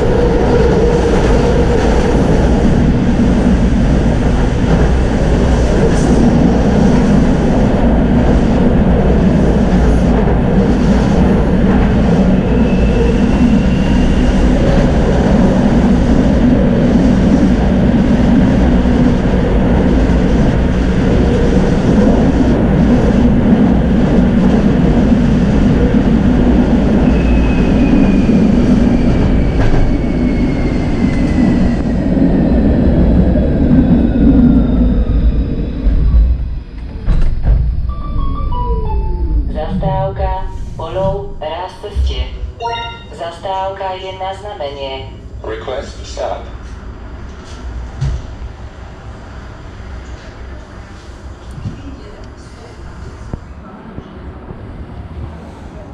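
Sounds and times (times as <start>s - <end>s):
tram rumbling on rails: 0.0s - 55.9s.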